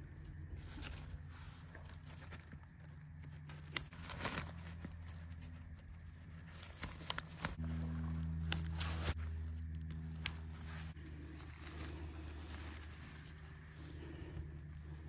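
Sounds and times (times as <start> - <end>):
low droning hum: 0.0 - 15.0
nylon strap rustling: 0.6 - 15.0.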